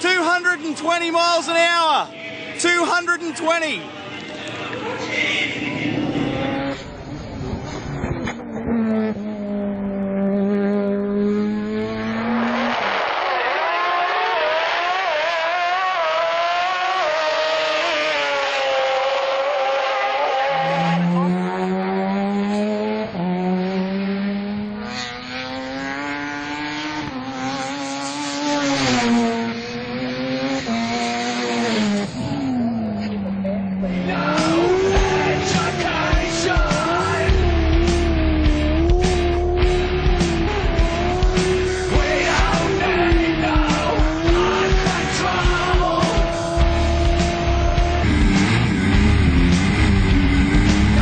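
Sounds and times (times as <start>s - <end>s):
race car engines revving: 0.0s - 51.0s.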